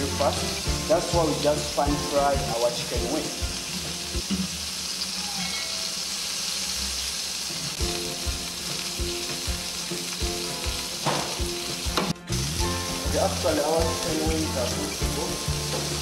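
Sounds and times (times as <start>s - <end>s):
chicken frying in oil sizzling: 0.0s - 16.0s.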